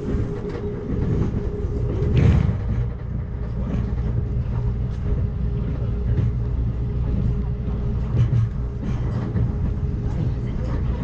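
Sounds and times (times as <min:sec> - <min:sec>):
train clatter: 0:00.0 - 0:11.0
train wheels rumbling on rail: 0:00.0 - 0:11.0.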